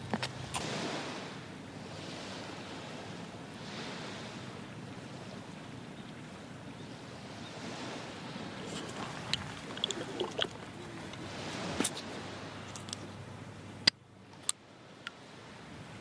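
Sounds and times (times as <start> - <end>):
small waves washing onto shore: 0.0 - 16.0.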